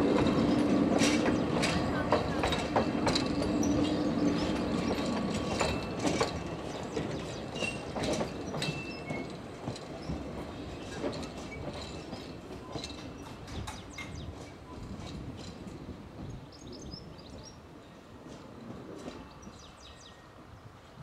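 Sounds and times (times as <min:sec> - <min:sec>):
train wheels clicking over rail joints: 0:00.0 - 0:16.8.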